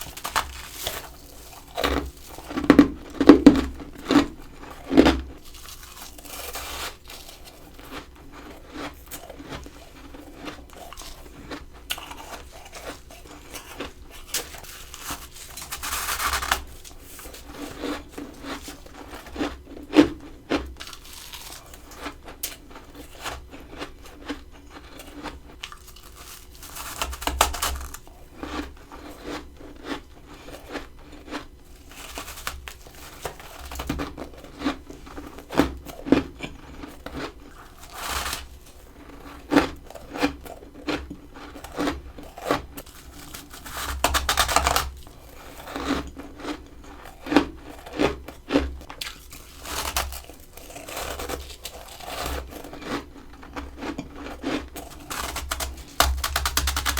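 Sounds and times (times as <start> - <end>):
biting and crunching frost: 0.0 - 56.9.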